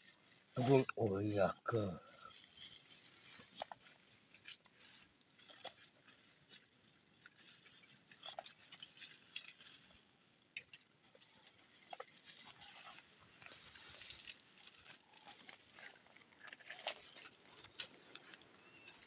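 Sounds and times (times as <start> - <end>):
faint ticks and crackles: 0.0 - 19.0.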